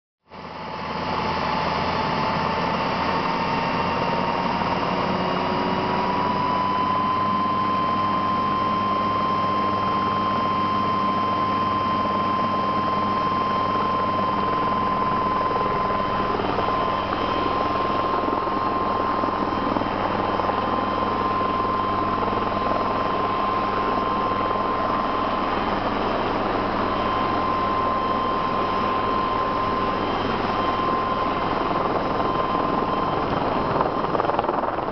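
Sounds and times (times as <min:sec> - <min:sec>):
helicopter rotor noise: 0:00.4 - 0:34.9
turbine engine whining: 0:00.4 - 0:34.9.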